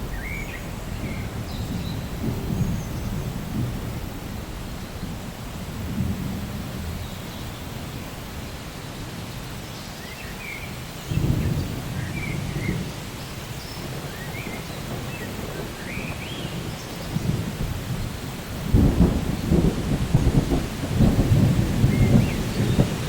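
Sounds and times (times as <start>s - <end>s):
thunder rolling: 0.0s - 7.3s, 11.1s - 13.1s, 13.8s - 23.0s
steady rain: 0.0s - 23.0s.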